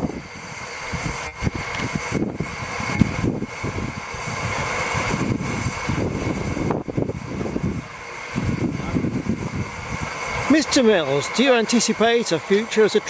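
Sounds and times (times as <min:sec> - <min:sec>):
gusty low rumble: 0:00.0 - 0:10.9
steam locomotive hissing: 0:00.0 - 0:13.0.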